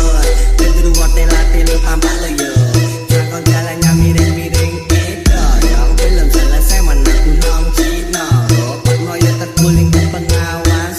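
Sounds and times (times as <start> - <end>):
music with steady beat and bass: 0.0 - 10.9
person singing: 0.0 - 10.9.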